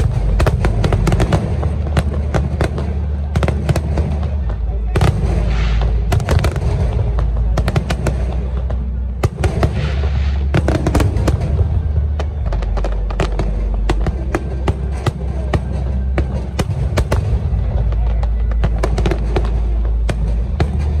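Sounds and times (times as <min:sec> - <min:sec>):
fireworks bangs and crackling: 0:00.0 - 0:21.0
low rumble: 0:00.0 - 0:21.0.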